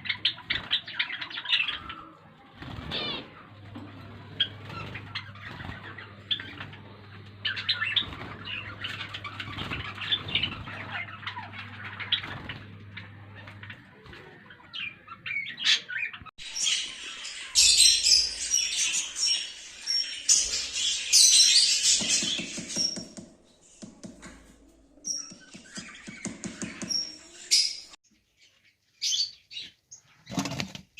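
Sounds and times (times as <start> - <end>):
lovebirds chirping and squawking: 0.0 - 30.9.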